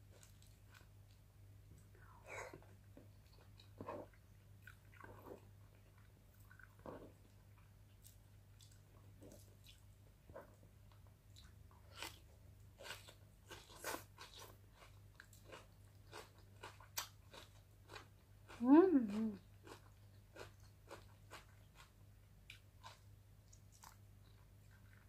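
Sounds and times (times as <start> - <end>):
faint low hum: 0.0 - 25.0
soft chewing: 0.0 - 25.0.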